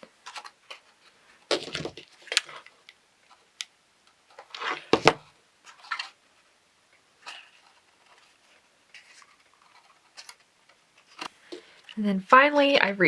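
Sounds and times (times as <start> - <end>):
paper rustling: 0.0 - 3.5, 4.3 - 6.5, 7.2 - 12.0.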